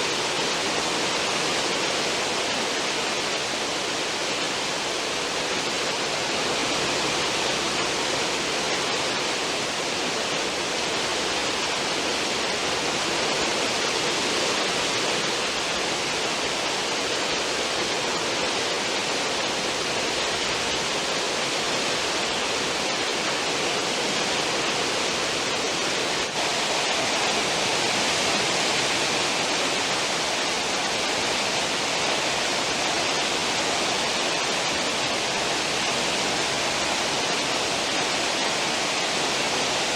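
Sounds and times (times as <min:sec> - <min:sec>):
ship wake water churning: 0:00.0 - 0:39.9.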